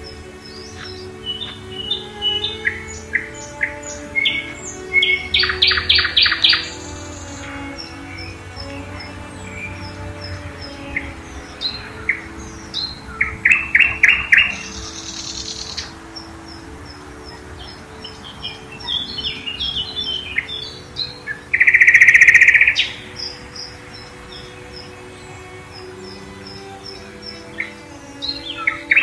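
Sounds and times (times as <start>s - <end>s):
loud rapid bird trill: 0.0s - 29.0s
songbirds singing: 0.0s - 29.0s.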